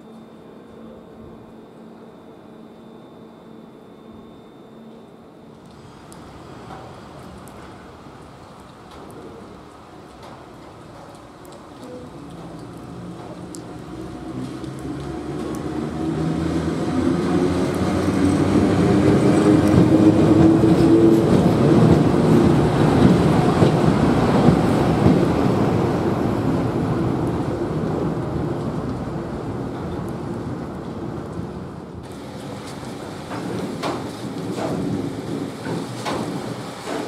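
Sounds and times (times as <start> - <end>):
electric locomotive passing: 0.0 - 37.0.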